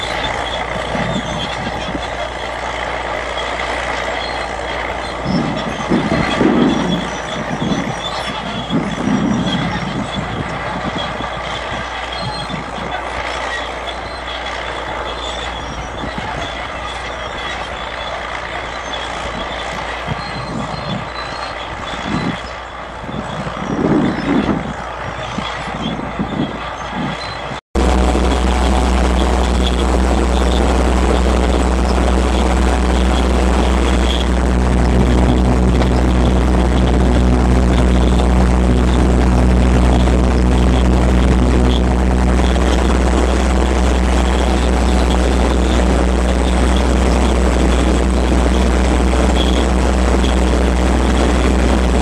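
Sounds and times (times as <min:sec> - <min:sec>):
strong low hum: 0:00.0 - 0:18.6, 0:27.6 - 0:52.0
tractor diesel engine droning: 0:00.0 - 0:52.0.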